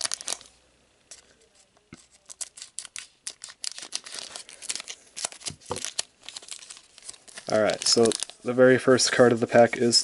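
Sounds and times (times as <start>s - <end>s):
foil wrapper crinkling and tearing: 0.0s - 1.3s, 2.0s - 10.0s.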